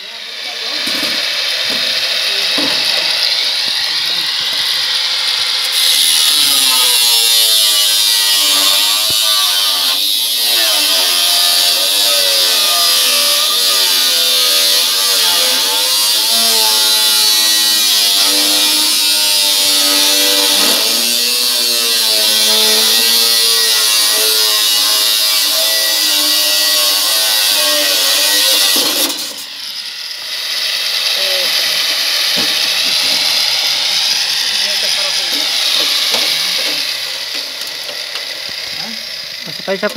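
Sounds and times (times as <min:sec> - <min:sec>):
angle grinder cutting sheet metal: 0:00.0 - 0:39.9.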